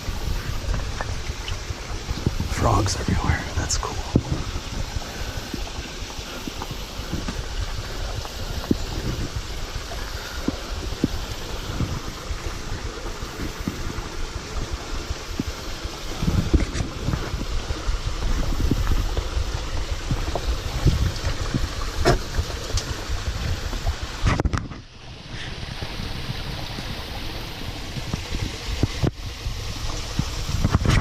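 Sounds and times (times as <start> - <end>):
small waterfall rushing: 0.0 - 31.0
wind rumbling on microphone: 0.0 - 31.0.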